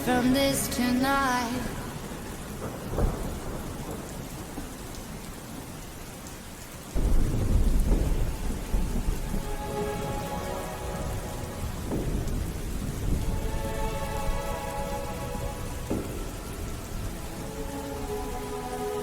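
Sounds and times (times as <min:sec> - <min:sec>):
thunder rumbling: 0:00.0 - 0:06.0, 0:06.9 - 0:19.0
steady rain: 0:00.0 - 0:19.0.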